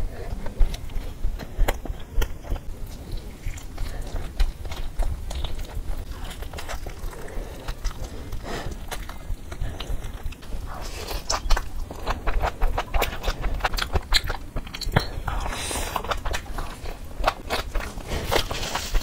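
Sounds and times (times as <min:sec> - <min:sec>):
close chewing with wet mouth clicks: 0:00.2 - 0:19.0.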